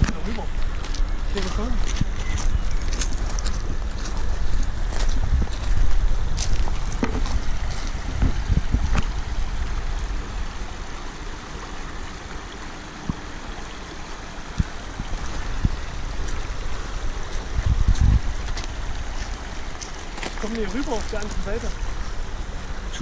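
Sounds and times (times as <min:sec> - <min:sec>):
wind gusting on microphone: 0:00.0 - 0:10.9, 0:14.2 - 0:23.0
river rushing over gravel: 0:00.0 - 0:23.0.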